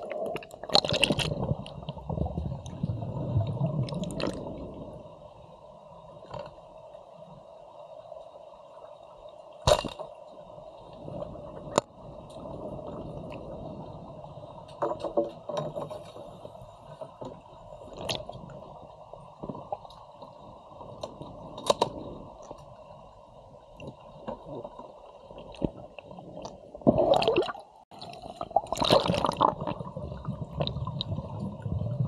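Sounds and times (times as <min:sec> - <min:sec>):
underwater hum: 0:00.0 - 0:32.0.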